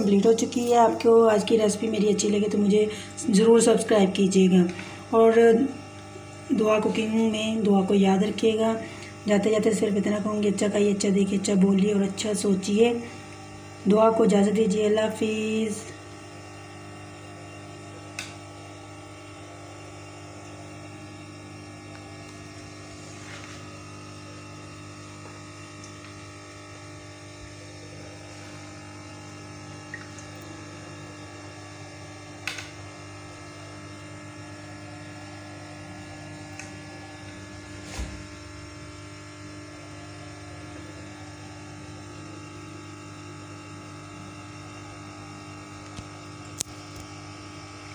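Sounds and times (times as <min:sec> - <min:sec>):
steady electrical hum: 0:00.0 - 0:47.9.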